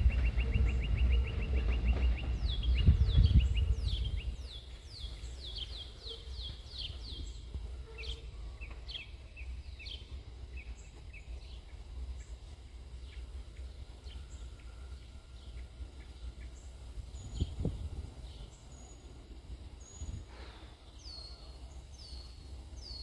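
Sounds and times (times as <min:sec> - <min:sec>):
low rumble: 0:00.0 - 0:20.2
bird chirping: 0:00.0 - 0:23.0.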